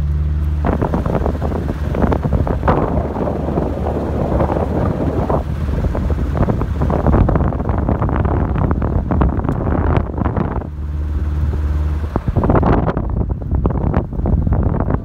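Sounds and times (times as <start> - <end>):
car engine and tyres running: 0.0 - 15.0
wind buffeting microphone: 0.6 - 15.0.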